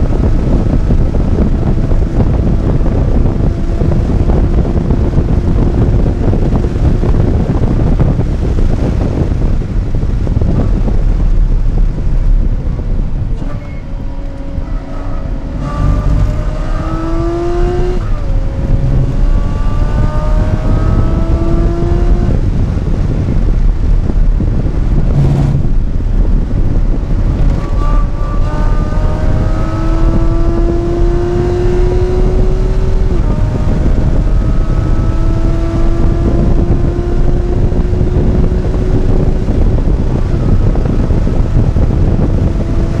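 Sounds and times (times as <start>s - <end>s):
car engine accelerating: 0.0s - 43.0s
road and wind noise: 0.0s - 43.0s.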